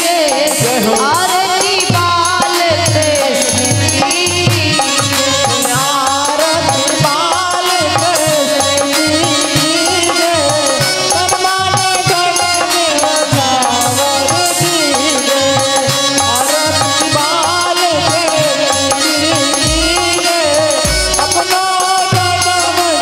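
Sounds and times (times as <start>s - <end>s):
jingling percussion: 0.0s - 23.0s
solo voice singing: 0.0s - 23.0s
hand drum beat: 0.1s - 23.0s.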